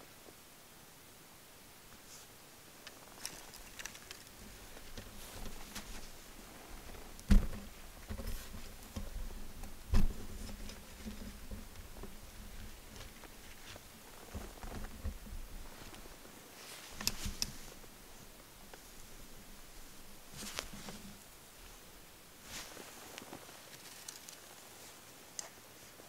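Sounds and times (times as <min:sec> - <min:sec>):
rustling and light clicks: 0:01.9 - 0:26.0.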